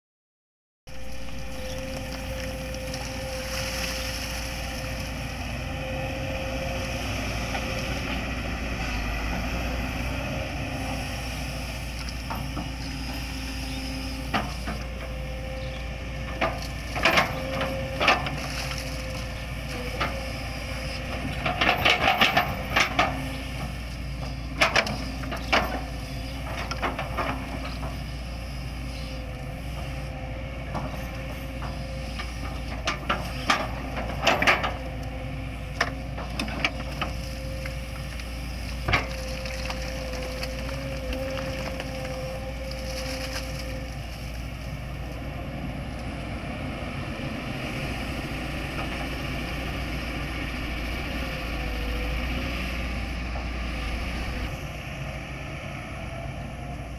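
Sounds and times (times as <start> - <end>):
excavator engine running: 0.9 - 56.9.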